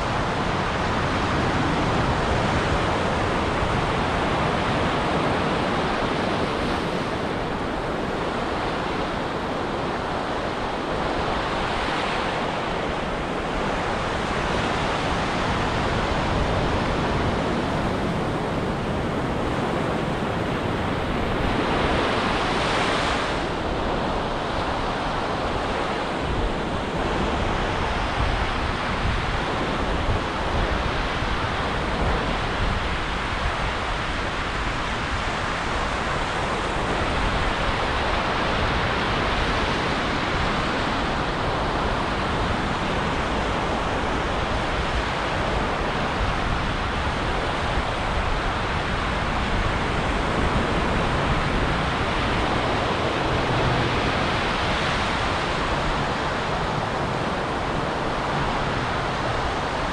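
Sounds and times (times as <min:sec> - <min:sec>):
ocean surf breaking on beach: 0:00.0 - 0:59.9.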